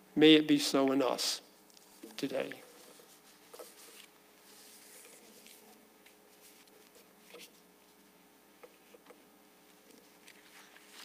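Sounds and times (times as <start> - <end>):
faint steady hum: 0.0 - 11.0
faint clicks and rustles: 1.6 - 11.0.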